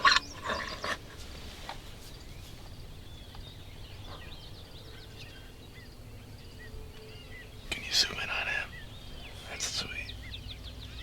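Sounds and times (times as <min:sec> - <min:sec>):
outdoor background hiss: 0:00.0 - 0:11.0
songbirds chirping: 0:00.0 - 0:11.0.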